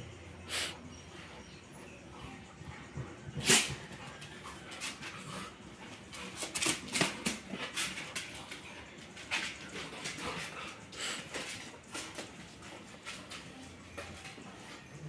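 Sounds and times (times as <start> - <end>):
dogs play-fighting: 0.0 - 15.0.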